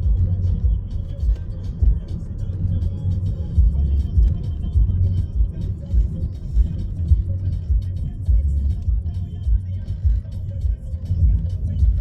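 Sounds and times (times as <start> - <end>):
car cabin rumble: 0.0 - 12.0
music playing: 0.0 - 12.0.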